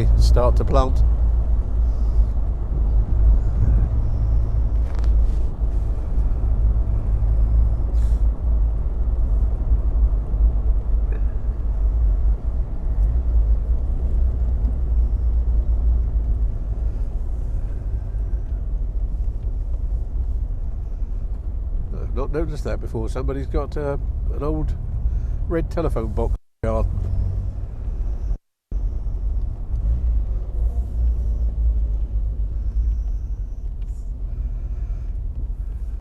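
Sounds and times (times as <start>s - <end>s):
car engine rumble: 0.0s - 36.0s
road noise: 0.0s - 36.0s.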